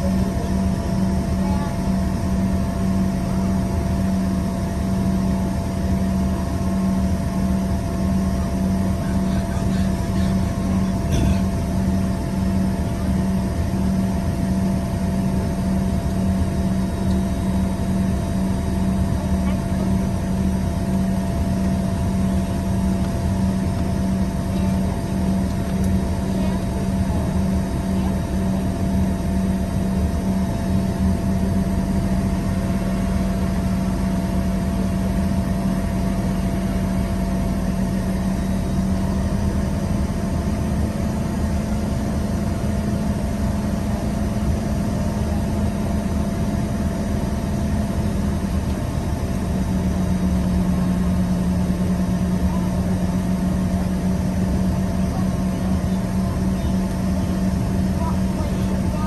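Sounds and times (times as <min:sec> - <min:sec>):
jet engine cabin hum: 0:00.0 - 0:59.0.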